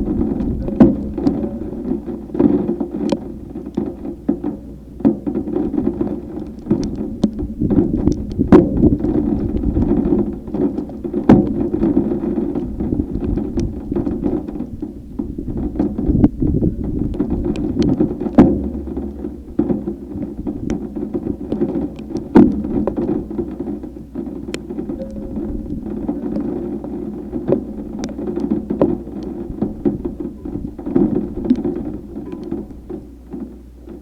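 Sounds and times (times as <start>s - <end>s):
drops ticking on hard surface: 0.0s - 34.0s
wind and rain buffeting microphone: 0.0s - 34.0s.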